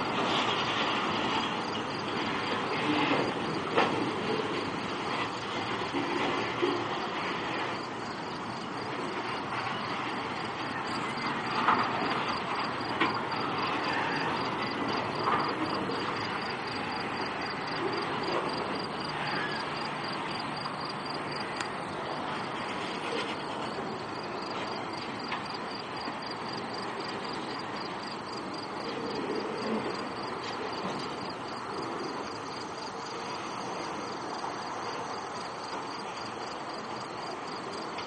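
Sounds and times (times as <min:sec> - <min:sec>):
insects chirping: 0:00.0 - 0:38.0
train clanks: 0:00.0 - 0:38.0
train wheels rumbling on rails: 0:00.0 - 0:38.0.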